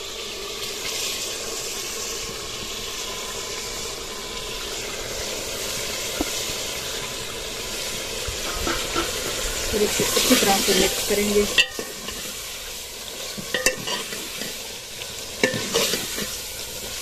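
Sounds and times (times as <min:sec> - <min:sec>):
meat sizzling in a pot: 0:00.0 - 0:17.0.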